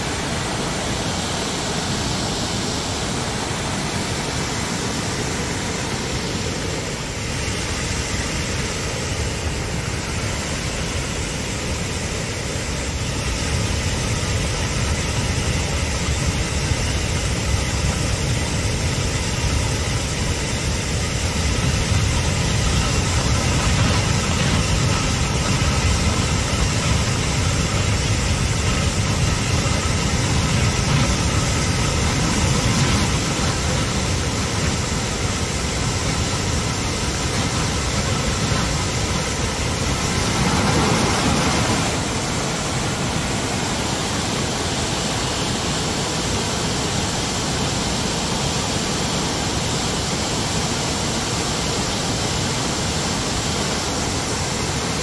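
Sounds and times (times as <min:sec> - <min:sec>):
flooding river rushing: 0:00.0 - 0:55.0.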